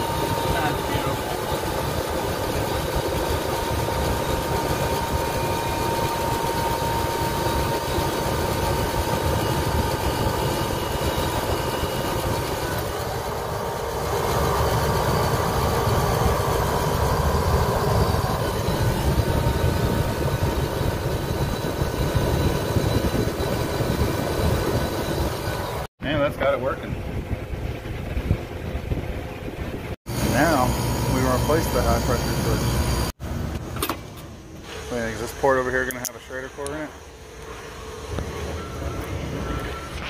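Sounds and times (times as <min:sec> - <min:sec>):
condensing unit humming with whine: 0:00.0 - 0:40.0.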